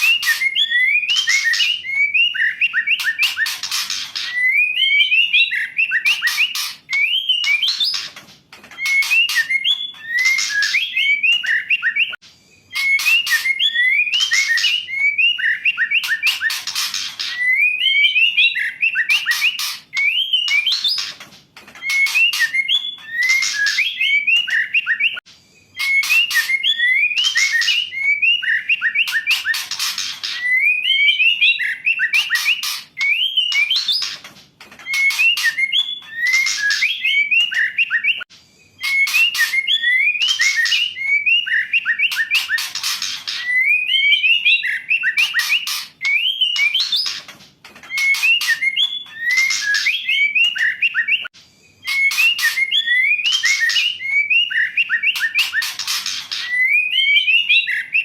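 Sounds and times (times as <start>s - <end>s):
bird whistled notes: 0.0s - 8.1s, 8.8s - 21.1s, 21.8s - 34.2s, 34.9s - 38.2s, 38.8s - 47.2s, 47.9s - 58.0s.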